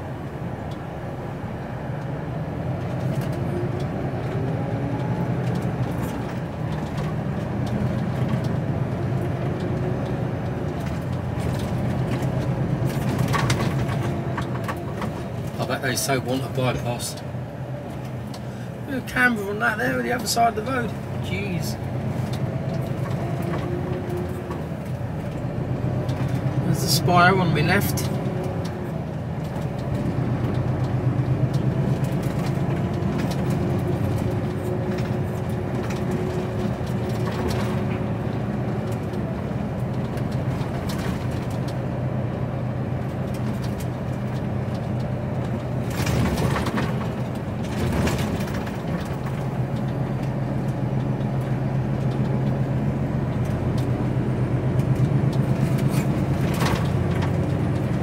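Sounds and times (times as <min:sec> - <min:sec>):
diesel engine drone: 0:00.0 - 0:58.0
road noise: 0:00.0 - 0:58.0.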